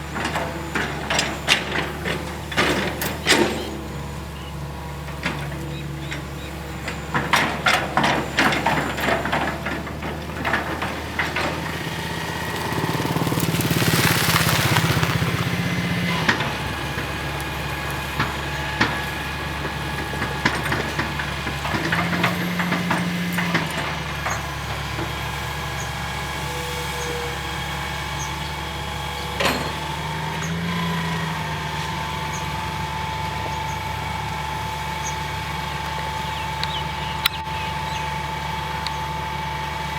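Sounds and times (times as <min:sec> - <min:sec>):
excavator diesel engine running: 0:00.0 - 0:39.9
hydraulic whine: 0:00.0 - 0:39.9.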